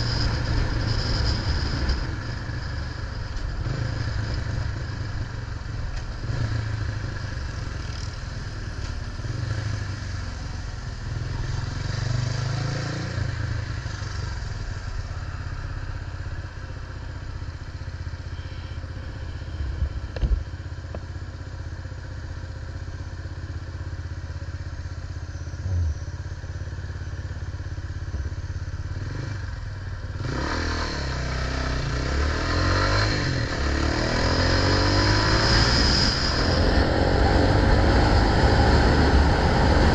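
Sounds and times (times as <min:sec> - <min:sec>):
vehicle engine: 0:00.0 - 0:39.9.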